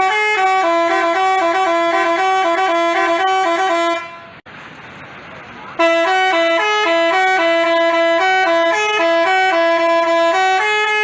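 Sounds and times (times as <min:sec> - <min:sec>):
multi-tone bus horn melody: 0:00.0 - 0:04.4, 0:05.8 - 0:11.0.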